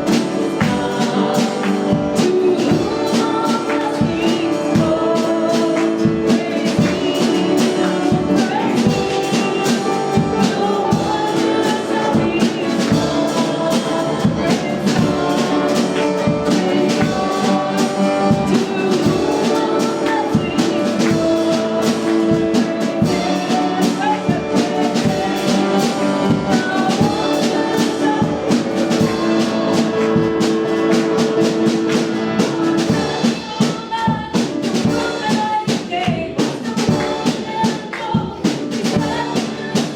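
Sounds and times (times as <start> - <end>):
worship band music with brass: 0.0 - 39.9.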